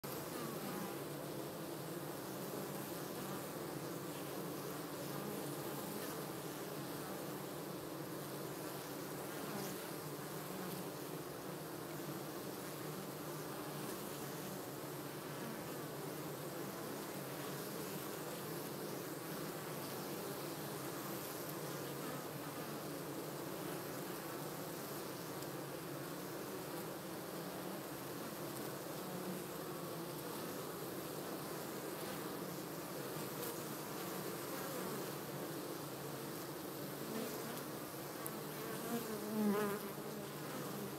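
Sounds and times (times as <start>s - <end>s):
bees buzzing: 0.1s - 40.9s.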